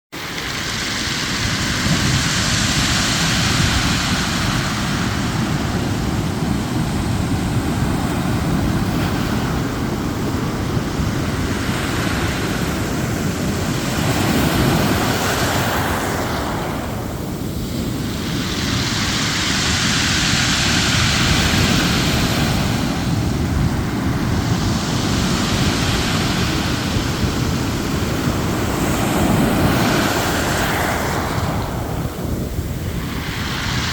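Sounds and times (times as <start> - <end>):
ocean surf on beach: 0.1 - 33.9
wind rumbling on microphone: 0.2 - 33.9.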